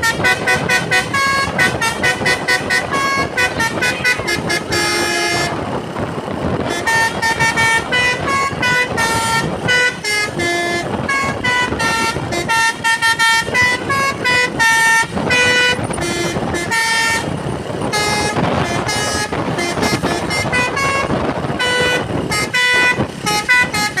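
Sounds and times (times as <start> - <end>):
engine and road noise: 0.0 - 24.0
musical truck horn melody: 0.0 - 24.0.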